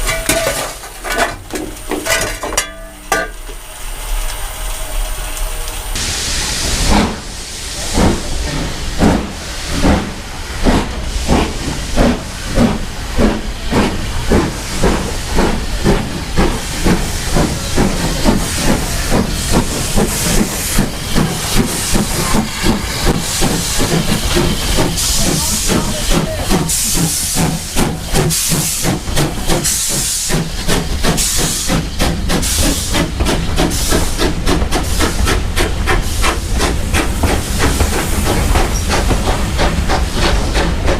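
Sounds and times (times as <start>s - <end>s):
steam locomotive exhaust beats: 1.5s - 40.9s
steam hiss: 3.2s - 40.9s.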